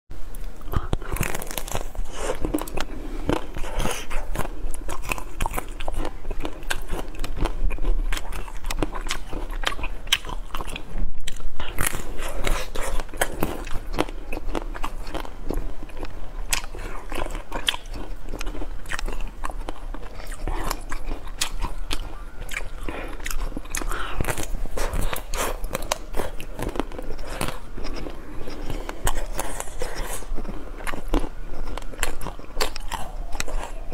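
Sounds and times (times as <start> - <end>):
chewing: 0.4 - 33.9
biting through chocolate coating: 0.6 - 33.9.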